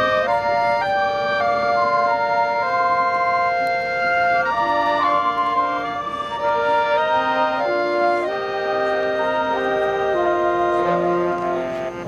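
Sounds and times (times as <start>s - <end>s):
marching band winds playing chords: 0.0s - 12.0s.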